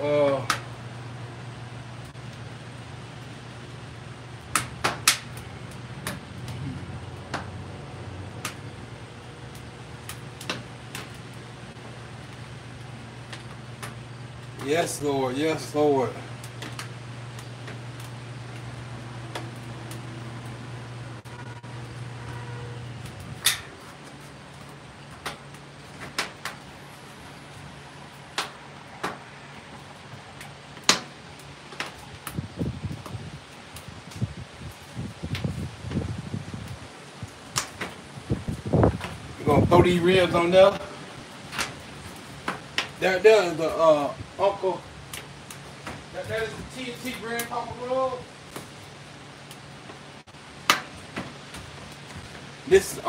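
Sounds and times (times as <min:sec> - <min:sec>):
sharp pops of fire: 0:00.0 - 0:00.8, 0:02.0 - 0:07.7, 0:08.3 - 0:20.6, 0:21.2 - 0:53.0
smoker humming: 0:00.0 - 0:53.0
wood fire crackling: 0:00.0 - 0:53.0.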